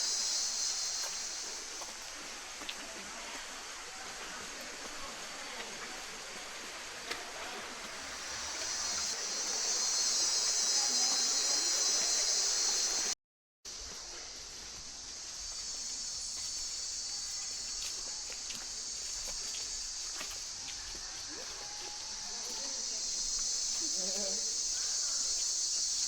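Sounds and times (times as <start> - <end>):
insects droning chorus: 0.0 - 6.9, 7.7 - 26.0.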